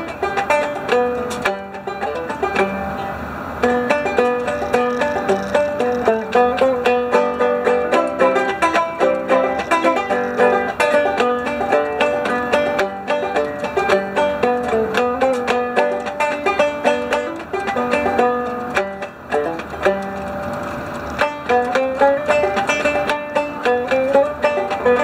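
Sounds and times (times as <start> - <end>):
banjo plucked notes: 0.0 - 25.0.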